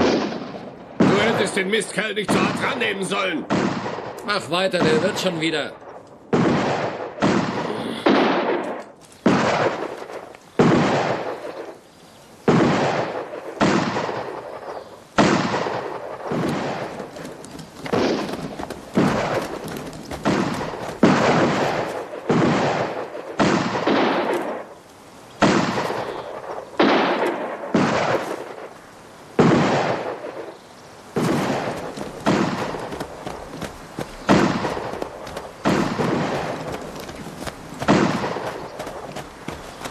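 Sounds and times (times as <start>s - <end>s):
echoing gunshots: 0.0s - 11.8s, 12.4s - 24.8s, 25.4s - 39.9s.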